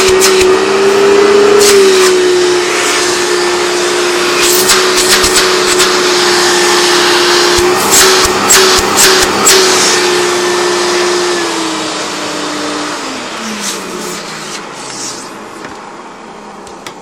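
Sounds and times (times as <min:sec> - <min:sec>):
vacuum cleaner motor whine: 0:00.0 - 0:17.0.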